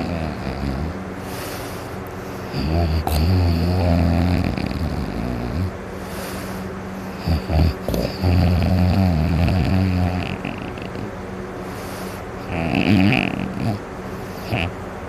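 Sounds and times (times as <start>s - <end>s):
loud low snoring: 0.0s - 11.1s, 11.7s - 14.8s
snort: 0.0s - 14.8s.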